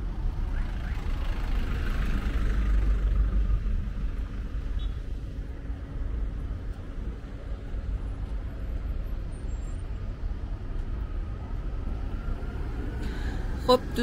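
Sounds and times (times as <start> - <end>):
cars driving past slowly: 0.0 - 14.0.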